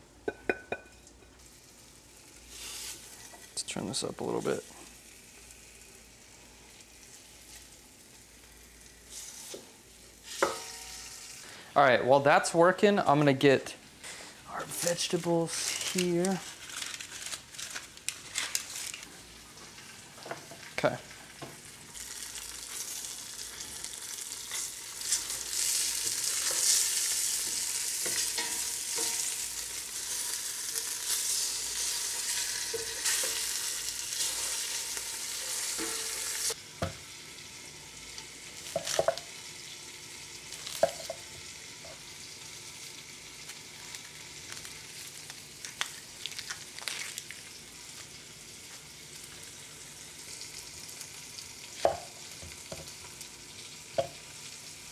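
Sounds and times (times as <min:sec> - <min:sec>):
meat sizzling in hot oil: 0:00.0 - 0:11.6, 0:14.8 - 0:54.9.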